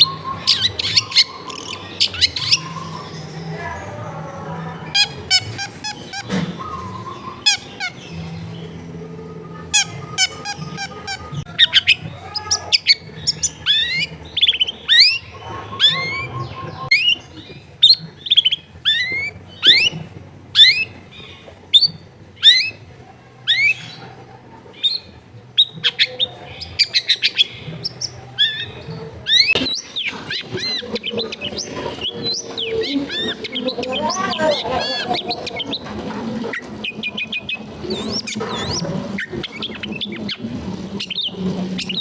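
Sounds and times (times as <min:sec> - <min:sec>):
bird singing whistled notes: 0:00.0 - 0:24.2, 0:24.8 - 0:35.9.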